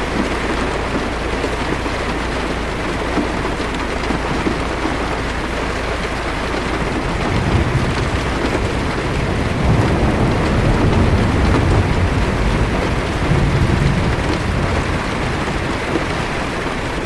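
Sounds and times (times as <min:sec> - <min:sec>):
distant thunder rumble: 0:00.0 - 0:17.0
heavy rain on car roof: 0:00.0 - 0:17.0.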